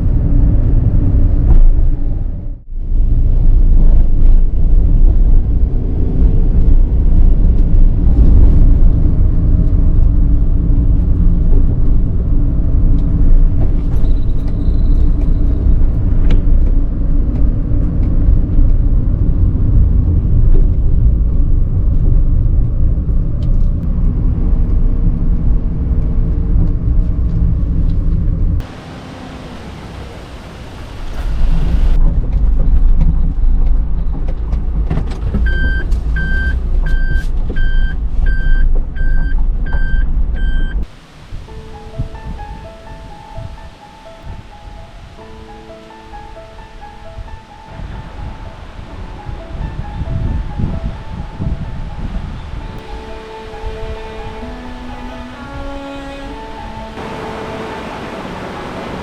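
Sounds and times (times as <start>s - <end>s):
van engine and tyre rumble: 0.0s - 59.0s.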